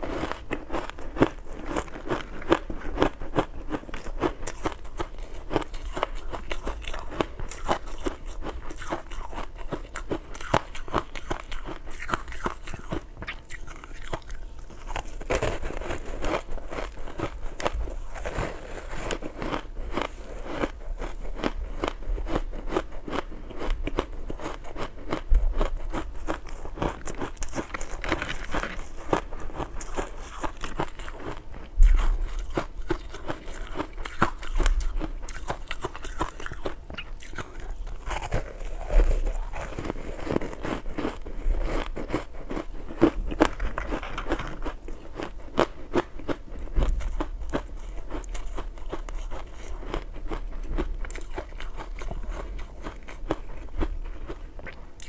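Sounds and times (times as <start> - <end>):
crunching and chewing ice: 0.0 - 55.0.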